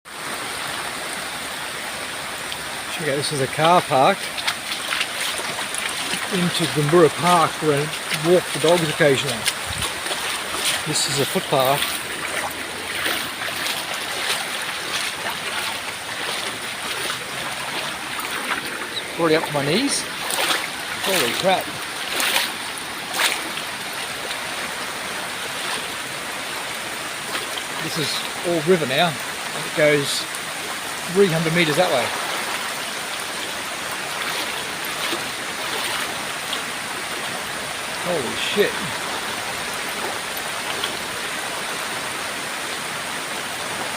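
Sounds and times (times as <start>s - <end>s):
flowing water rushing: 0.1s - 43.9s
water sloshing around legs: 2.2s - 41.5s.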